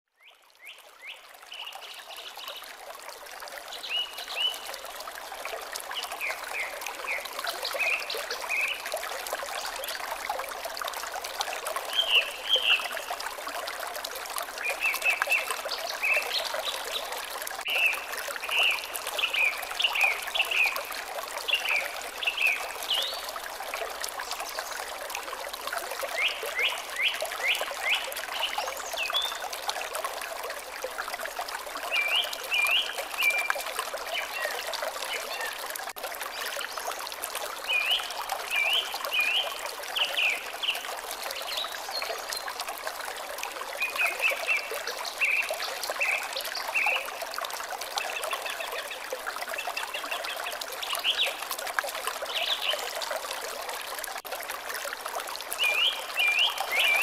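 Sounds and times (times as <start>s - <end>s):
water trickling: 0.2s - 57.0s.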